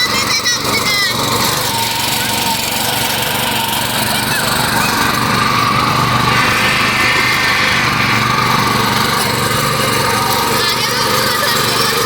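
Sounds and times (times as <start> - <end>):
small tractor engine running: 0.0 - 12.0.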